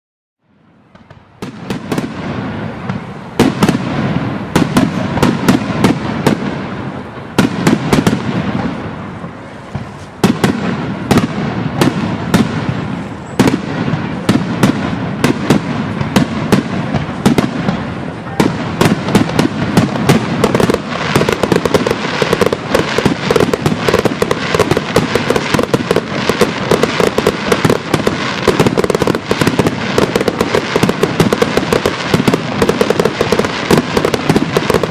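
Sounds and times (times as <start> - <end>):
fireworks crackling: 0.6 - 34.9
firework bangs and booms: 0.8 - 34.9.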